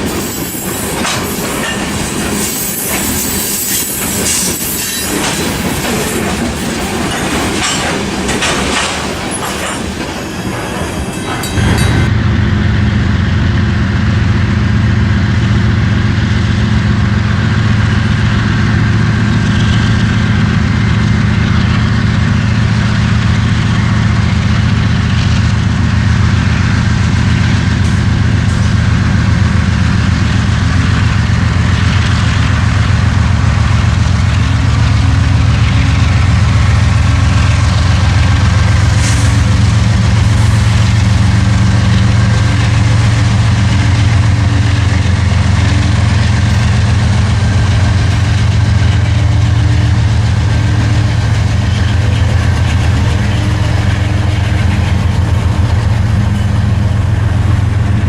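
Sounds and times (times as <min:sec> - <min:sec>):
large diesel engine throbbing: 0:00.0 - 0:58.0.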